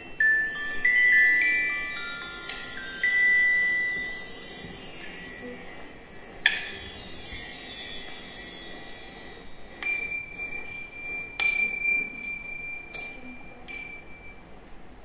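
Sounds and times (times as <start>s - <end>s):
bar chimes shimmering: 0.0s - 15.0s.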